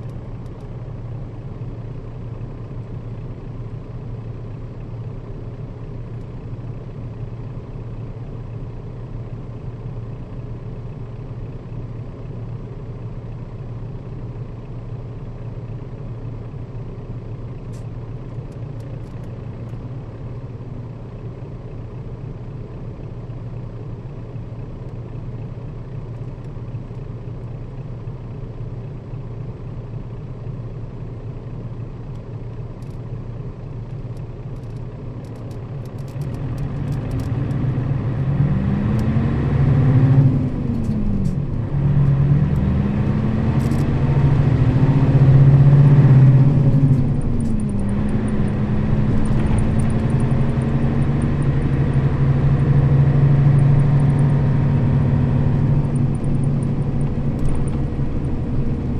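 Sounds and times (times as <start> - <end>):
bus diesel engine: 0.0 - 58.9.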